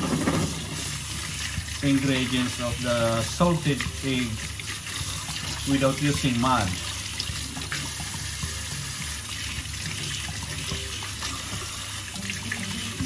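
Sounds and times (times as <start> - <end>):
tap running into steel sink: 0.0 - 13.0
water splashing over eggs: 0.0 - 13.0.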